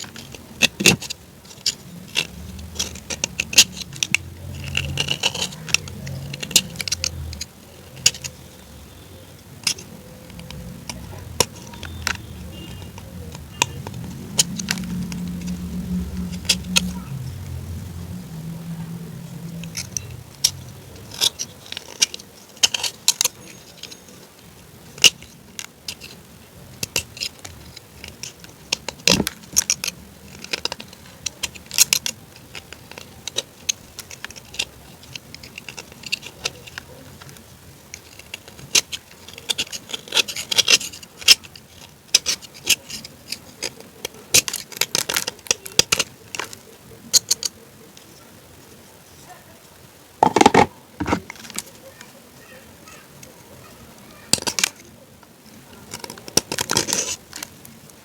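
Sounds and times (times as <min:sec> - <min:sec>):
crunchy food being chewed: 0:00.0 - 0:47.5.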